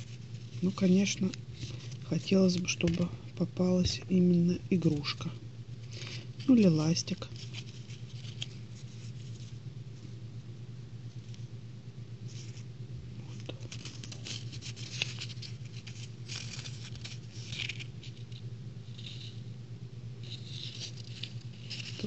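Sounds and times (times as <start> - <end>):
paper tape rustling and crackling: 0.0 - 3.1, 3.9 - 10.1, 12.2 - 19.5, 20.2 - 22.0
steady low hum: 0.0 - 22.0.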